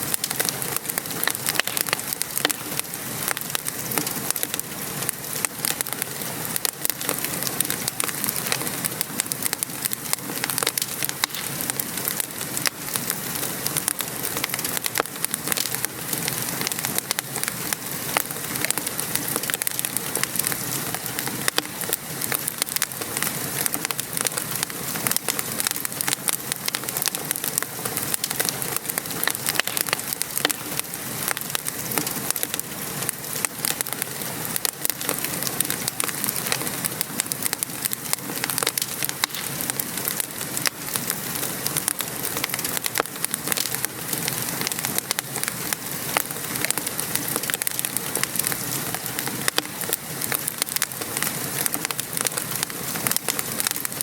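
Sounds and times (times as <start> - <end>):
rain pattering: 0.0 - 54.0
wood fire crackling: 0.0 - 54.0.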